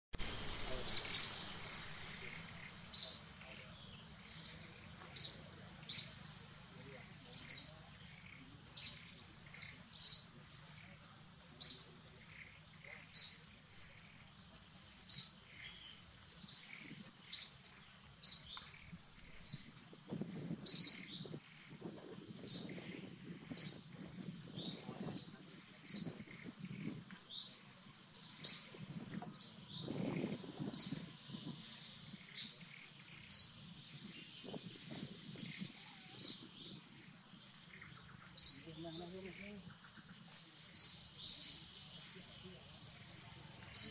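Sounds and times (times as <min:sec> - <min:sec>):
bird chirping: 0:00.2 - 0:19.8, 0:20.4 - 0:43.9.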